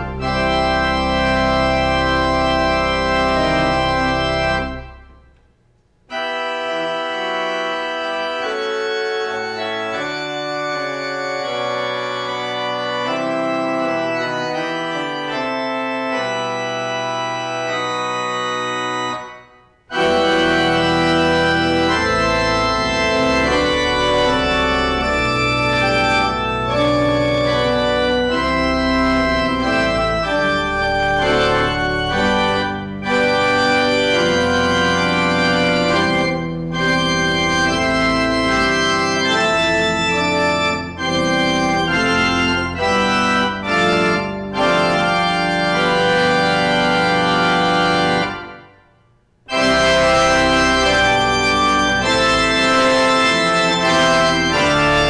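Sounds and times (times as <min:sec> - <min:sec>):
organ-like instrumental music: 0:00.0 - 0:55.0.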